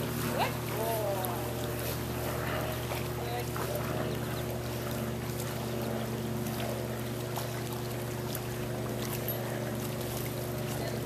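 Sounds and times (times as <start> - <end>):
pool pump motor humming: 0.0 - 11.0.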